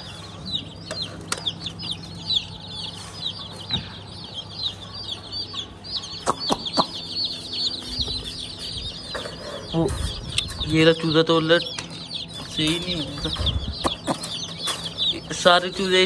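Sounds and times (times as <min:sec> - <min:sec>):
baby chicks peeping: 0:00.0 - 0:16.0.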